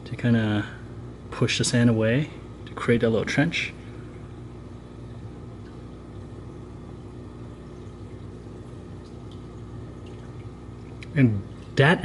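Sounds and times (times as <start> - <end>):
aquarium equipment hum: 0.0 - 12.0.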